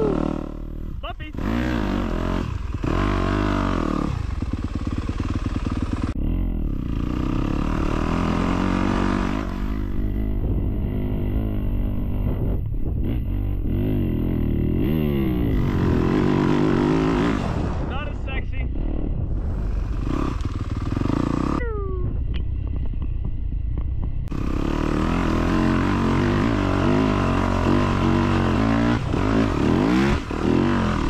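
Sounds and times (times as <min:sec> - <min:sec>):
dirt bike engine revving: 0:00.0 - 0:21.8, 0:24.3 - 0:31.0.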